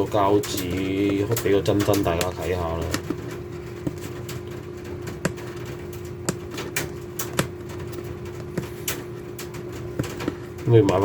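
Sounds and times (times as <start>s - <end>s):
packaging clicks and taps: 0.1s - 11.0s.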